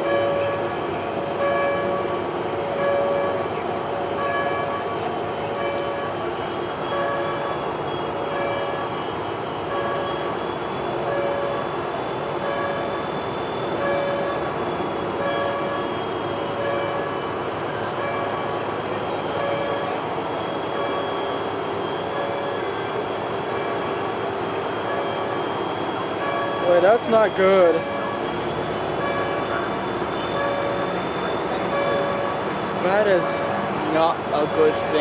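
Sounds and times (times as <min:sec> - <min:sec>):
locomotive engine rumbling: 0:00.0 - 0:35.0.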